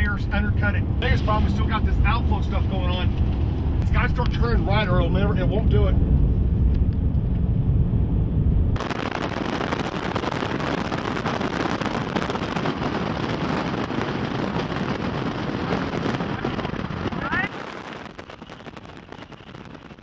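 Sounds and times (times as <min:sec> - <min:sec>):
deep rumble: 0:00.0 - 0:20.0
wind roaring over microphone: 0:00.0 - 0:20.0.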